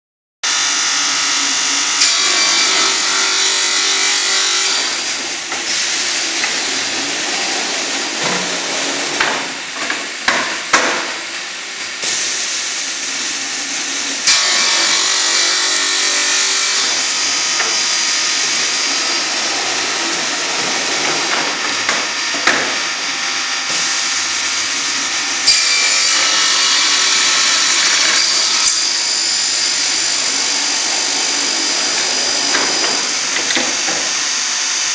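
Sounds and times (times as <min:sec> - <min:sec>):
saw blades spinning and cutting wood: 0:00.5 - 0:09.2, 0:13.4 - 0:34.9.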